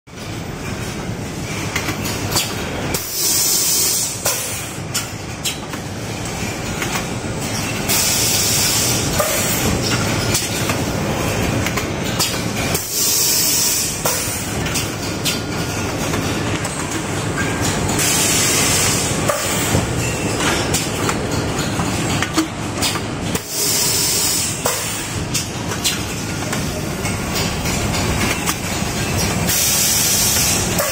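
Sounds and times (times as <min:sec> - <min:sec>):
machine clatter and clicking: 0:00.1 - 0:30.9.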